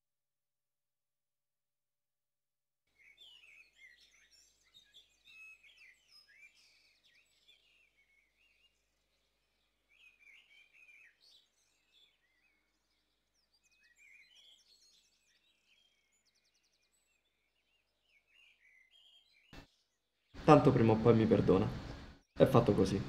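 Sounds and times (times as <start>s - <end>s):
small birds chirping: 2.9s - 23.0s.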